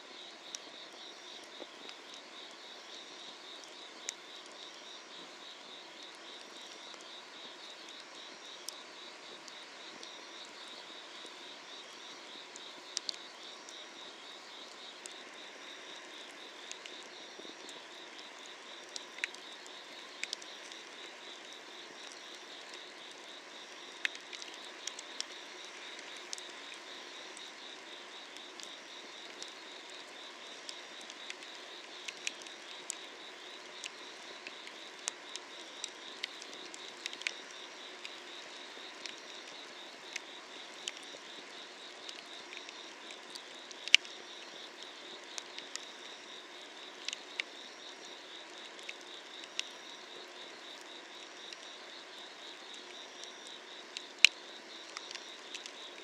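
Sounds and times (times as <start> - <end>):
insects trilling: 0.2 - 56.0.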